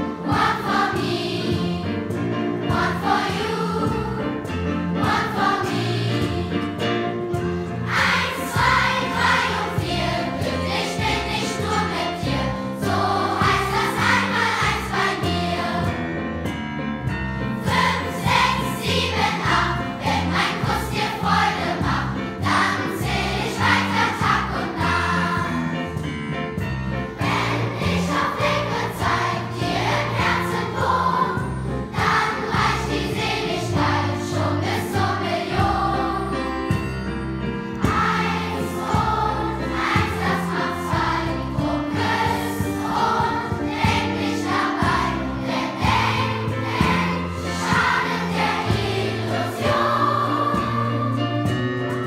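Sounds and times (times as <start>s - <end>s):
children's choir singing: 0.0s - 16.2s, 17.5s - 26.1s, 27.1s - 36.8s, 37.8s - 51.7s
instrumental accompaniment with bass: 0.0s - 52.0s.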